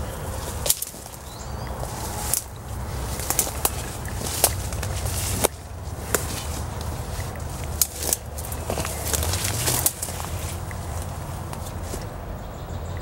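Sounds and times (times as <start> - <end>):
footsteps through undergrowth: 0.0 - 12.2
low microphone rumble: 0.0 - 13.0
twigs snapping and leaves swishing: 0.2 - 12.1.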